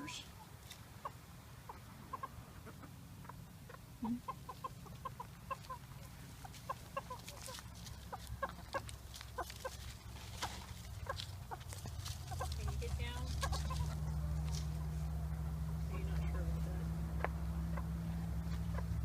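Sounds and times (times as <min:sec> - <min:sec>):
chickens clucking softly: 0:00.0 - 0:19.0.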